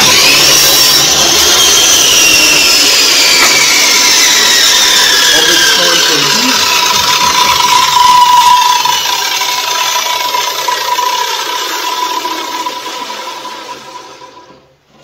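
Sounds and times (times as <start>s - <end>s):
mitre saw winding down whine: 0.0s - 14.8s.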